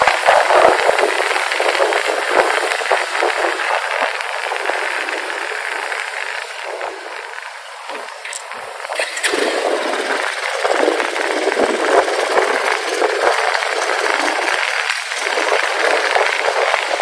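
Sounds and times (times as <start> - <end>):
wind and road noise on motorcycle: 0.0 - 17.0.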